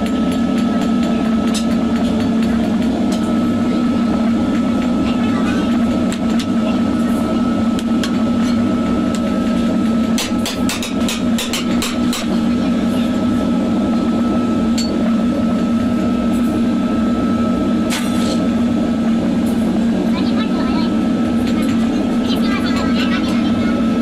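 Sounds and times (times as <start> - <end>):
workshop machinery drone: 0.0 - 24.0.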